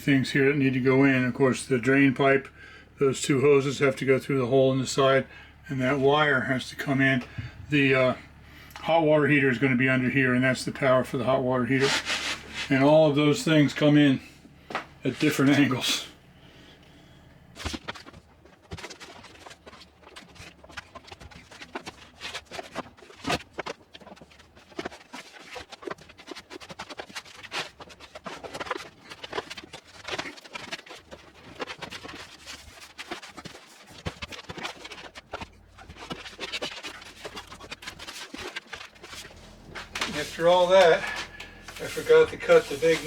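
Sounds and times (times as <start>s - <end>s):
hoses and cable knocking and scraping: 4.6s - 16.0s, 17.5s - 43.0s.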